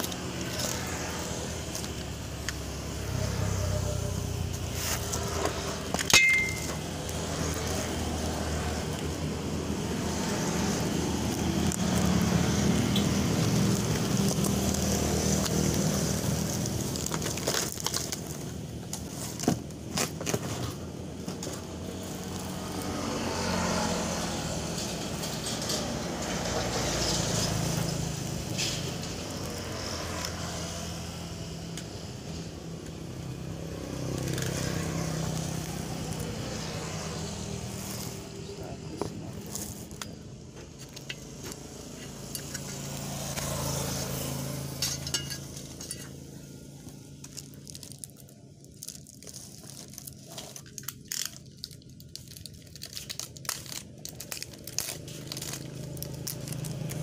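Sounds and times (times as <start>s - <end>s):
cardboard and plastic packaging rustling: 0.0s - 57.0s.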